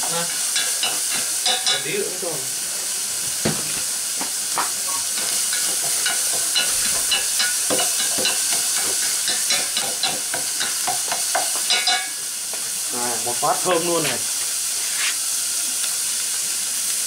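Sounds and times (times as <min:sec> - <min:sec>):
sizzling hiss in a pot: 0:00.0 - 0:17.0
wood fire crackling and popping: 0:00.0 - 0:17.0.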